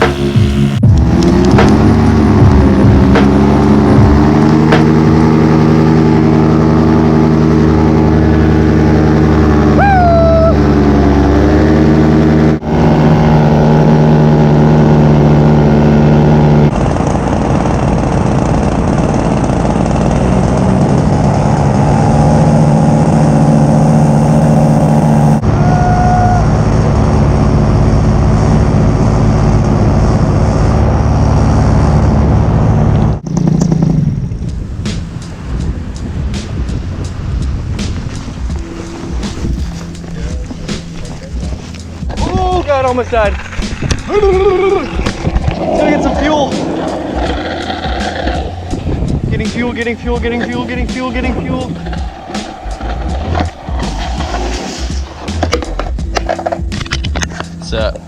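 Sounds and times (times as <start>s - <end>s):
paramotor engine drone: 0.0s - 58.0s.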